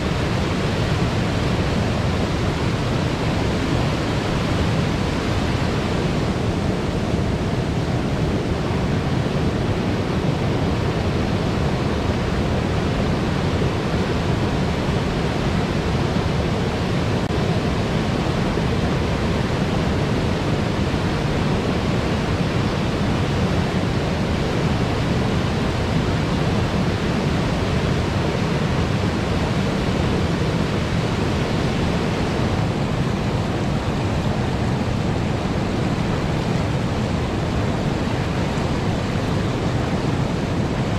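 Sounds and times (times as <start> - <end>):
river water roaring over weir: 0.0 - 40.9.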